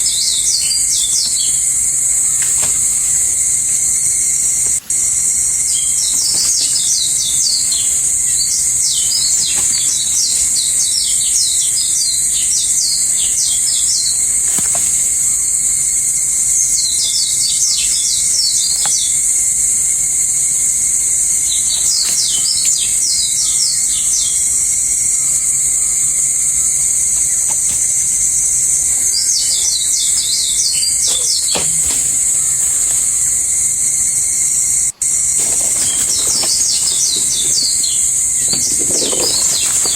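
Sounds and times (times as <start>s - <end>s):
birds chirping: 0.0s - 39.9s
high-pitched insect drone: 0.0s - 39.9s.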